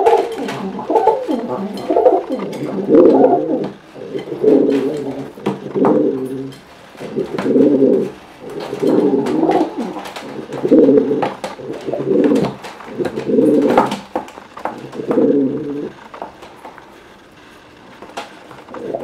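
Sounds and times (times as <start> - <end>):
pigeons cooing: 0.0 - 16.2, 18.7 - 19.0.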